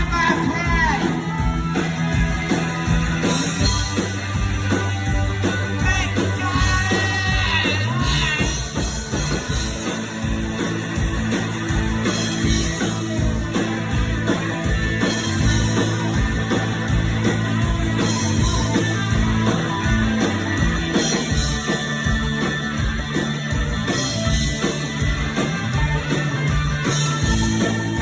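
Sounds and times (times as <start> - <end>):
bass: 0.0 - 28.0
drums with steady beat: 0.0 - 28.0
electric guitars: 0.0 - 28.0.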